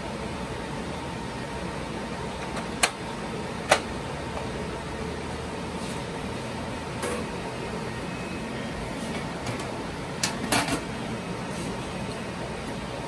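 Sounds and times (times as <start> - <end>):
fan whirring: 0.0 - 13.0.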